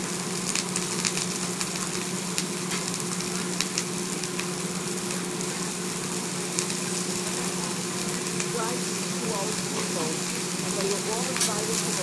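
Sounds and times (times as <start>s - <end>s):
rice sizzling on a griddle: 0.0s - 12.0s.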